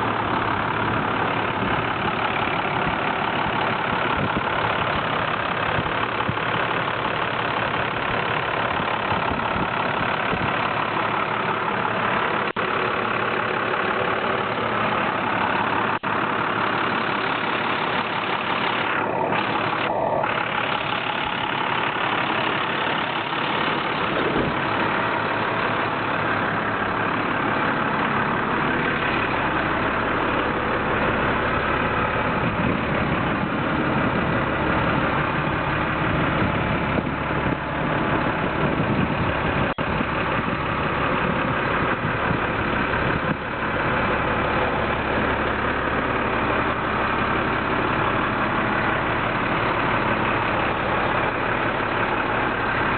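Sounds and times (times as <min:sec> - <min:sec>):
truck engine idling: 0:00.0 - 0:52.9.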